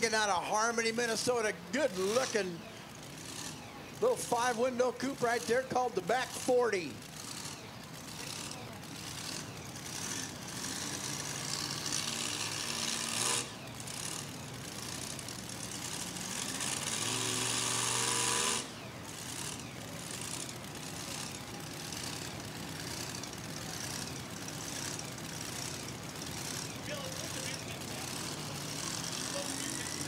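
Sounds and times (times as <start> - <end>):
truck engine at full throttle: 0.0 - 30.0.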